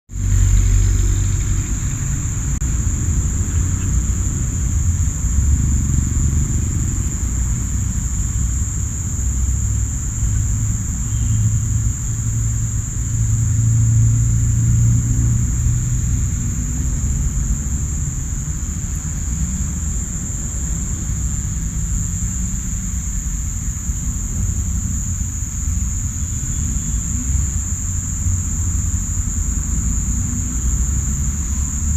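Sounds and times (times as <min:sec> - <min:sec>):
crickets and cicadas chorus: 0:00.1 - 0:31.9
low rumble: 0:00.1 - 0:31.9.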